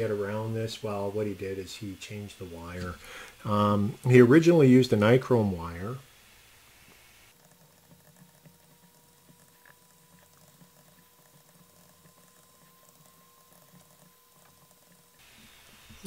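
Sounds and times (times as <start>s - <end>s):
faint steady tone: 0.0s - 16.0s.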